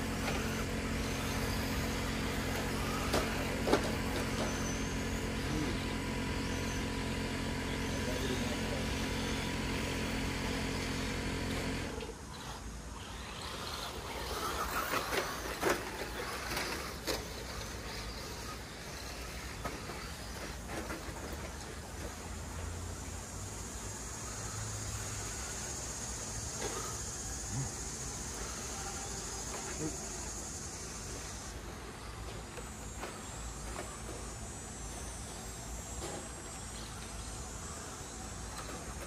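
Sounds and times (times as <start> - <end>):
low mechanical motor hum: 0.0 - 39.0.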